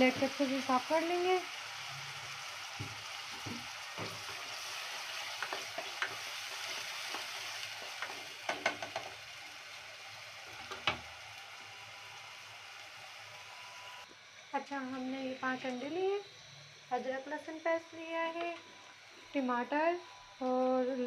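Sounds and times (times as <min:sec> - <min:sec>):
onions sizzling in oil: 0:00.0 - 0:17.5.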